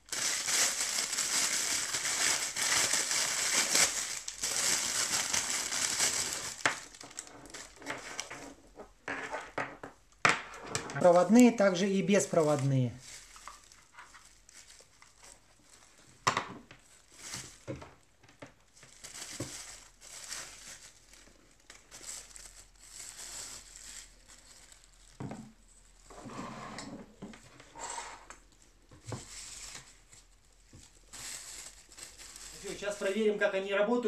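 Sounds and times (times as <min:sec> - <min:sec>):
plastic and paper crinkling: 0:00.0 - 0:08.7, 0:10.7 - 0:26.1, 0:28.4 - 0:33.6.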